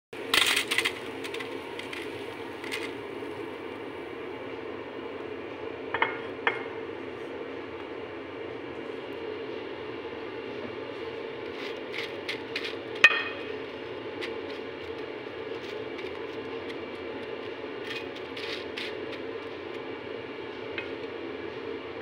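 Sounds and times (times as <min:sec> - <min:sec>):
steady background hum: 0:00.2 - 0:22.0.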